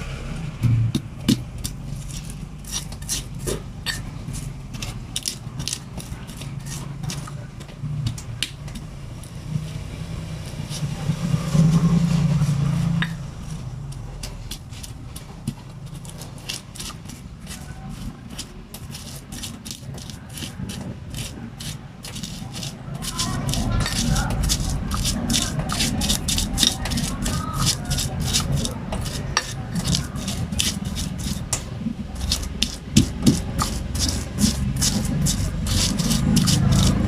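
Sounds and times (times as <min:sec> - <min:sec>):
pestle grinding in mortar: 0:00.0 - 0:37.0.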